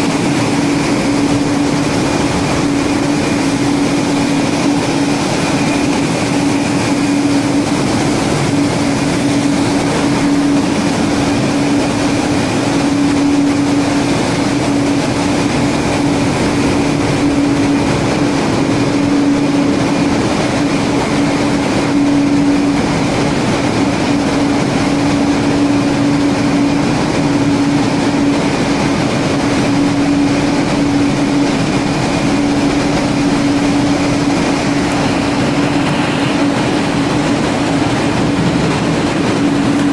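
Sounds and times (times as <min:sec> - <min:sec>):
constant machinery hum: 0:00.0 - 0:39.9
engine room machinery din: 0:00.0 - 0:39.9.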